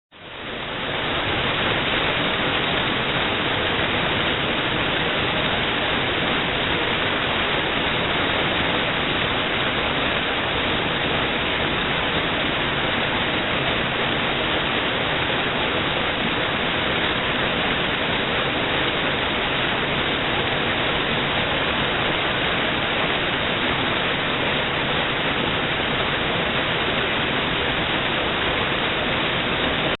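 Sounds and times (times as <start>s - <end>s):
waterfall rushing: 0.2s - 30.0s.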